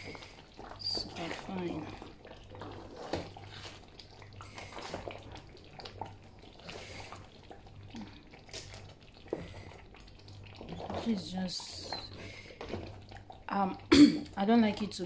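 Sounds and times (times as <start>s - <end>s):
thick stew squelching being stirred: 0.0s - 13.5s.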